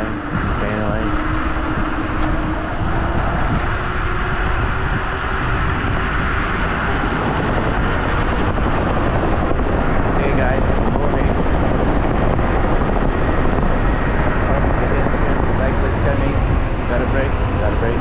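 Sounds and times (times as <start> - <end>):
tyre and road rumble: 0.0 - 18.0
wind rushing over microphone: 0.0 - 18.0.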